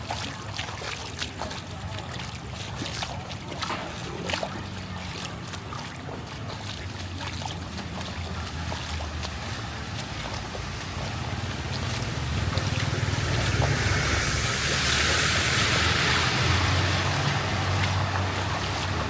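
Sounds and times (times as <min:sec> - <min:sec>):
floodwater splashing: 0:00.0 - 0:19.0.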